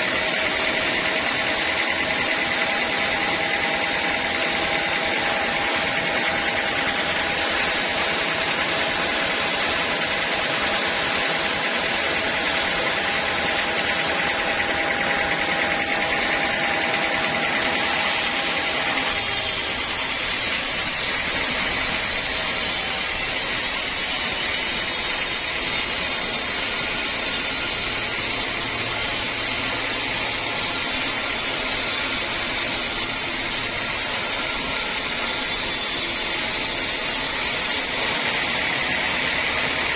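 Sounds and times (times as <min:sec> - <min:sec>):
sawmill saw cutting logs: 0:00.0 - 0:39.9.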